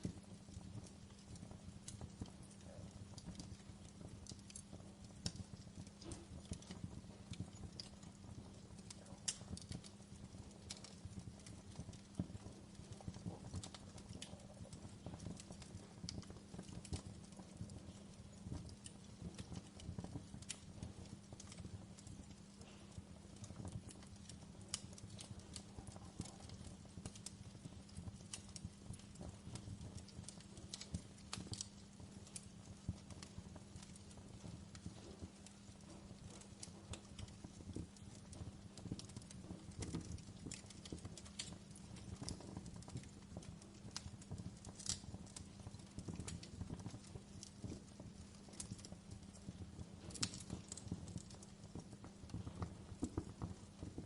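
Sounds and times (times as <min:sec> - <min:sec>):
faint low rumble of flames: 0:00.0 - 0:54.0
fire crackling and popping: 0:00.0 - 0:54.0.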